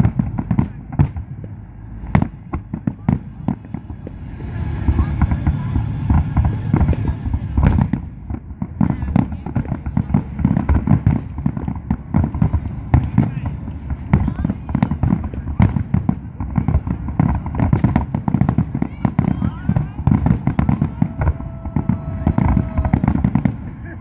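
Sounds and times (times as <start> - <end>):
hissing crackle: 0.0 - 23.7
fireworks booming and cracking: 0.0 - 24.0.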